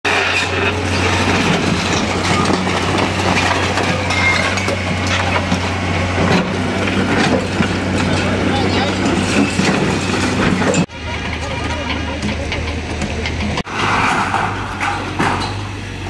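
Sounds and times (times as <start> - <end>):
timber and brick crashing: 0.1 - 11.4, 12.0 - 15.6
excavator diesel engine running: 0.1 - 16.0.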